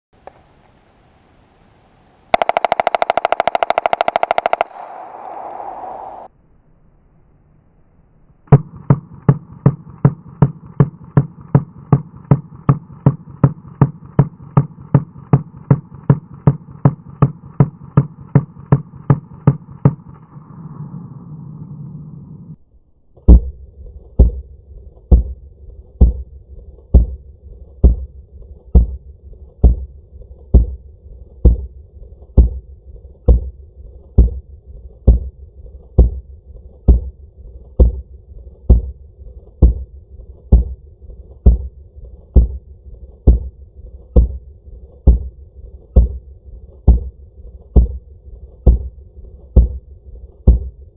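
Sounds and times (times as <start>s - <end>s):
low hum: 0.2s - 50.9s
slowed gunshots deep thuds: 2.3s - 6.3s, 8.5s - 20.3s, 23.2s - 40.8s, 41.4s - 50.9s.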